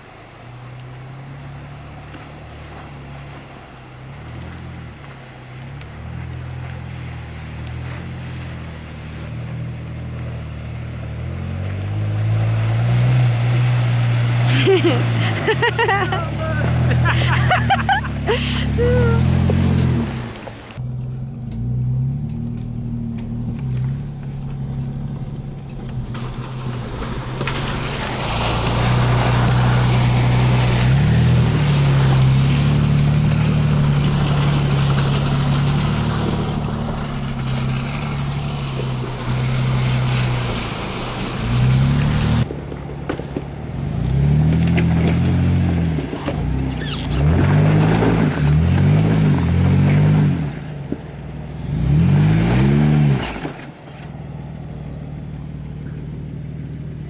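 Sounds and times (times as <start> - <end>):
water splashing around tyres: 0.0 - 20.8, 21.6 - 57.0
car engine revving: 0.0 - 42.5, 43.7 - 50.7, 51.5 - 57.0
car engine pulling: 0.0 - 57.0.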